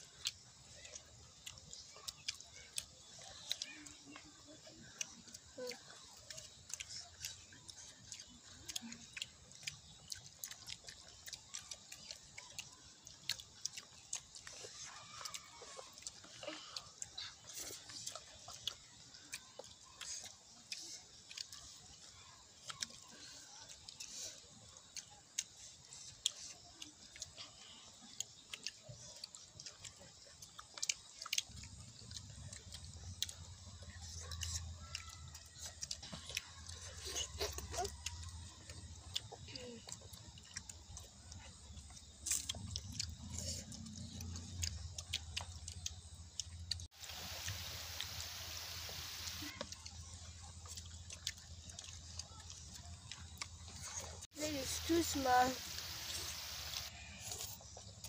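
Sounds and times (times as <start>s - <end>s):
children chewing food: 0.0s - 58.0s.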